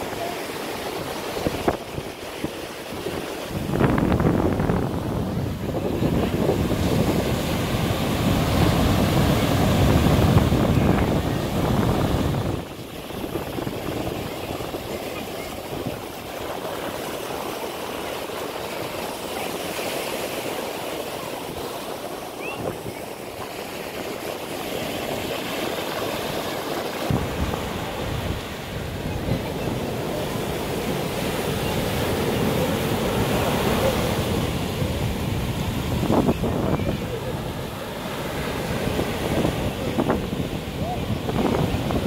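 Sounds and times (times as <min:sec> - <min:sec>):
sea waves breaking on sand: 0:00.0 - 0:42.0
wind rumbling on microphone: 0:00.7 - 0:17.6, 0:21.4 - 0:42.0.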